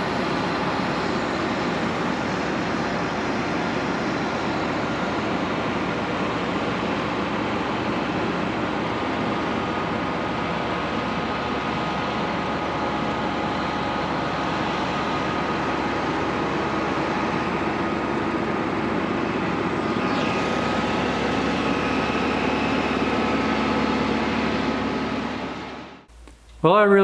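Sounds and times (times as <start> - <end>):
diesel engines running: 0.0 - 26.8
high whine: 0.0 - 27.0.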